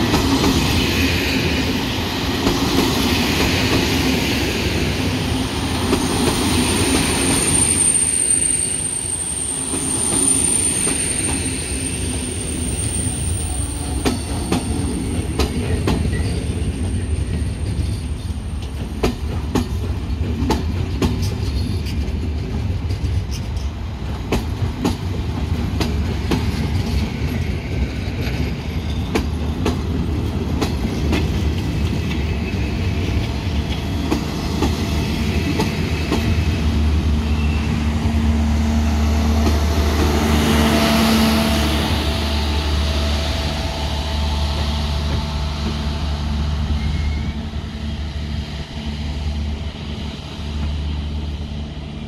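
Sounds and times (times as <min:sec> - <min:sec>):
train low hum: 0:00.0 - 0:52.0.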